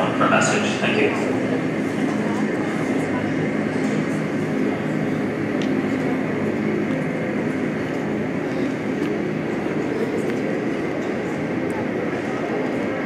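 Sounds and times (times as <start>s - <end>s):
jet engines whining: 0.0s - 13.0s.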